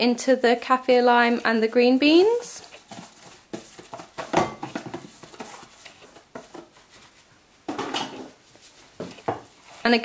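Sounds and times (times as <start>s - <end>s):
plastic glove rustling: 0.0s - 10.0s.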